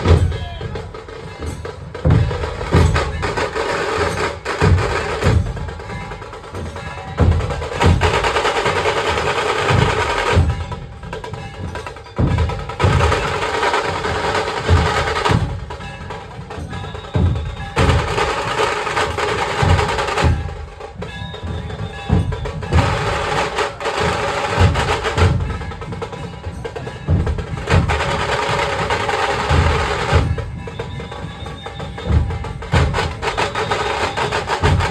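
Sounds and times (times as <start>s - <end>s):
deep drum beats: 0.0s - 34.9s
fast drum rolls: 0.0s - 34.9s.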